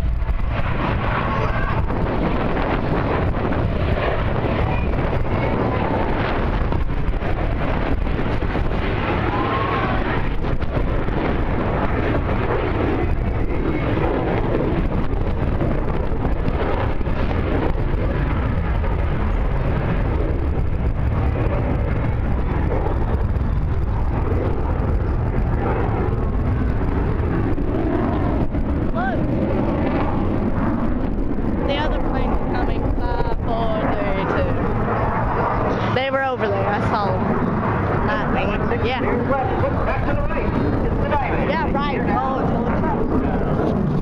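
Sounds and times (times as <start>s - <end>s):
distant jet aircraft roar: 0.0s - 44.0s
wind buffeting microphone: 0.0s - 44.0s.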